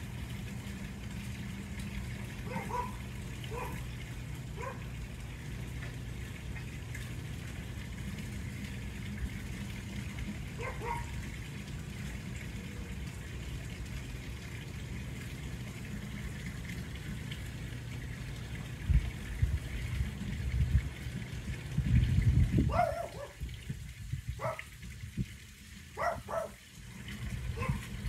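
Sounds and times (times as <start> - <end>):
fountain splashing: 0.0 - 28.0.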